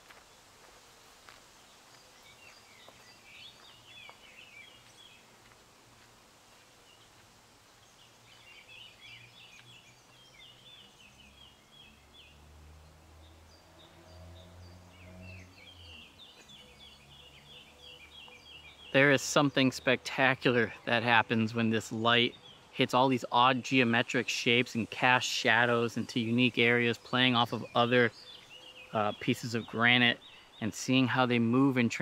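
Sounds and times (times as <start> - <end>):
songbird chirping: 0.0 - 32.0.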